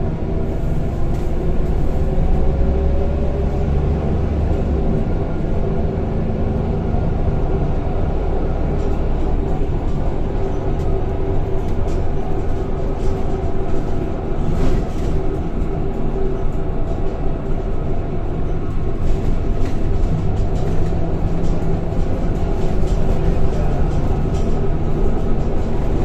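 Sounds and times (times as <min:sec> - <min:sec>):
bus engine drone: 0:00.0 - 0:26.0.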